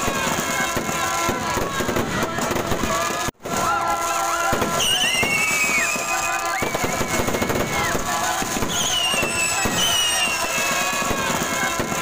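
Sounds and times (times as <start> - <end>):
fireworks crackling bursts: 0.0 - 12.0
whistling firework shells: 0.0 - 12.0.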